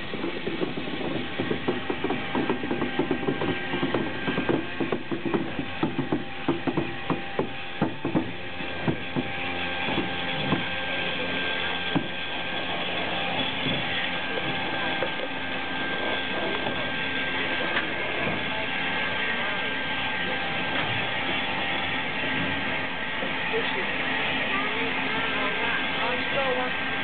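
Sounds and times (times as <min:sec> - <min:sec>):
steady steam hiss: 0:00.0 - 0:27.0
steam locomotive metallic clanks: 0:00.0 - 0:27.0.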